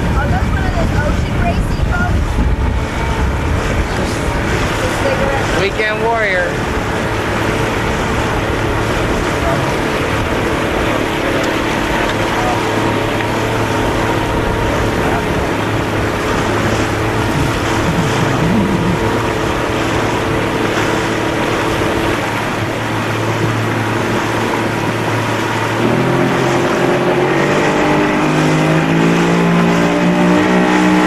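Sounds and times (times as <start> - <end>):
motorboat engine running: 0.0 - 31.0
water noise: 0.0 - 31.0
wind: 0.0 - 31.0.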